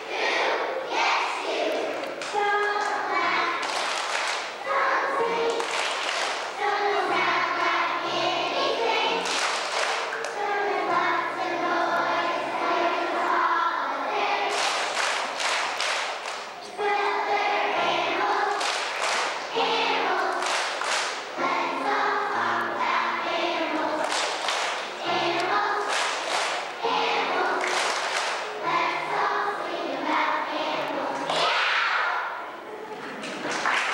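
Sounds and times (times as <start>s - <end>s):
children's choir singing: 0.0s - 33.9s.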